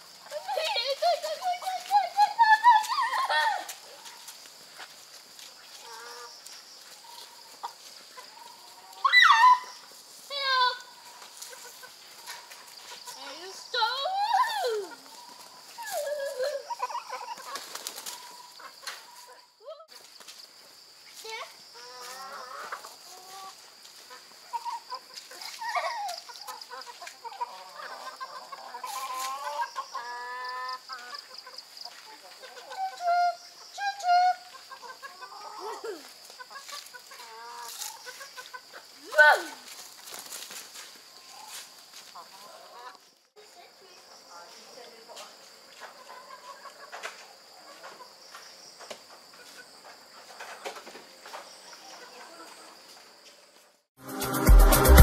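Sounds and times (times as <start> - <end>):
chickens clucking and calling: 0.0 - 20.7, 21.6 - 43.2, 45.5 - 53.7
high-pitched insect chorus: 0.0 - 53.4.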